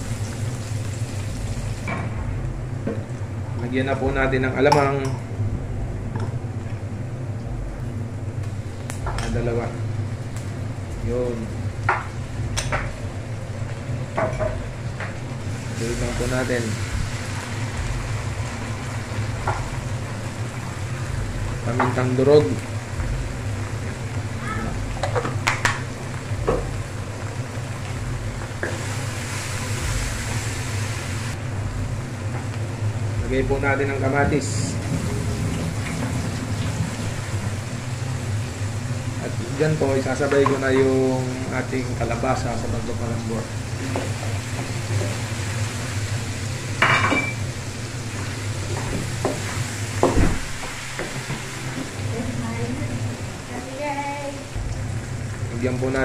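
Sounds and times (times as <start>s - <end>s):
food sizzling in hot oil: 0.0s - 3.4s, 8.0s - 56.0s
steady low hum: 0.0s - 56.0s.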